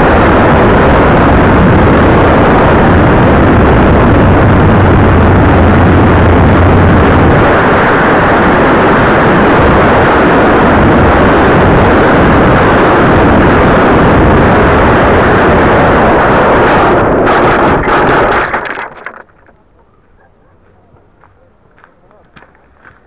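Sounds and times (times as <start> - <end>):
overloaded airflow and motor noise: 0.0 - 23.0.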